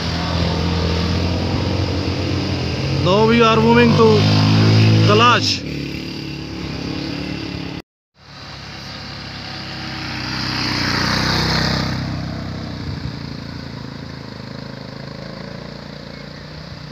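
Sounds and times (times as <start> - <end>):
motorcycle engines running: 0.0 - 16.9
motorcycle passing by: 0.0 - 16.9.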